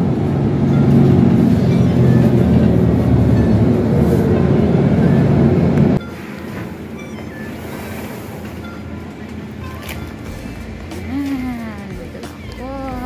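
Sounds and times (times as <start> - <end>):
bus engine rumble: 0.0 - 13.0
quiet bus cabin noise: 0.0 - 13.0.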